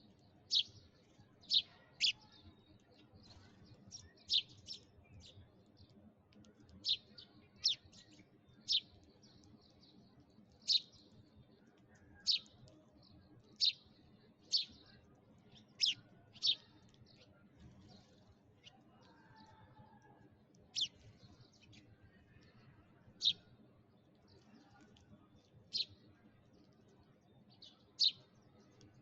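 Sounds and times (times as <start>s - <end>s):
sparrow chirping: 0.0s - 19.3s, 20.6s - 22.6s, 23.2s - 23.6s, 25.5s - 26.1s, 26.8s - 28.8s.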